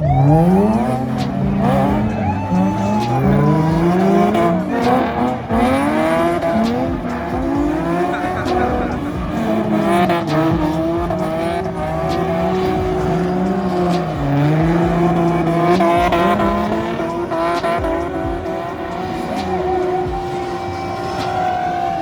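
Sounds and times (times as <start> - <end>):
car engines revving: 0.0 - 22.0
tires squealing: 0.0 - 22.0.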